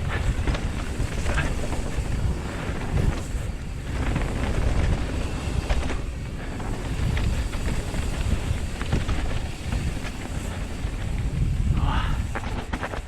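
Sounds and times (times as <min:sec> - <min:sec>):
bike clicks and rattles: 0:00.0 - 0:13.0
tyres rumbling over dirt trail: 0:00.0 - 0:13.0
wind buffeting microphone: 0:00.0 - 0:13.0.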